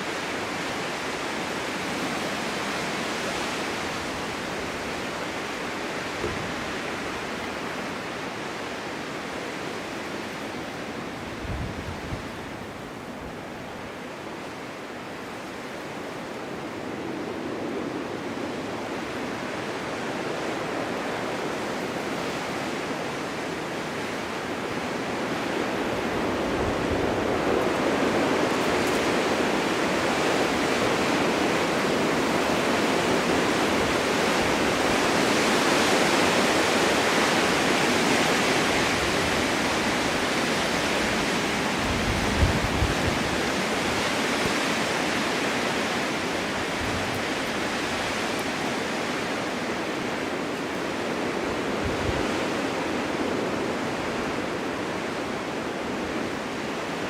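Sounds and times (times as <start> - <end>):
wind rushing in snowstorm: 0.0 - 57.0.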